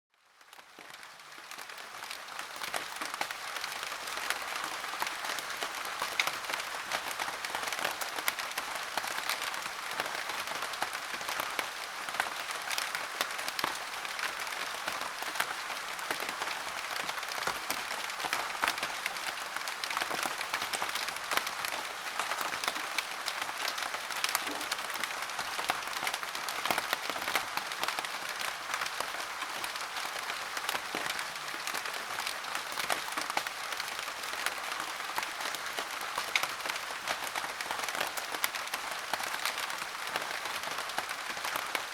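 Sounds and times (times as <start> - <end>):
heavy rain pattering: 0.2 - 41.9.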